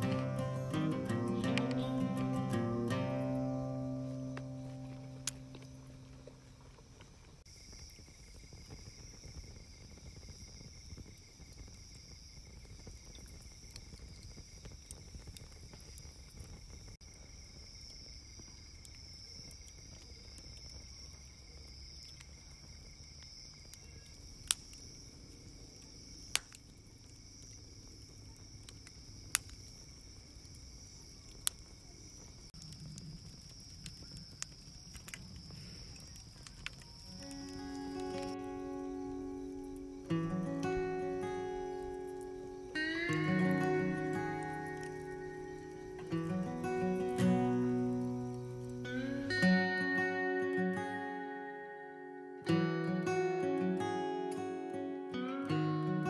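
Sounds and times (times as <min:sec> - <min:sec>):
burning log crackling pops: 0:00.0 - 0:49.4
crickets chirping: 0:00.0 - 0:56.0.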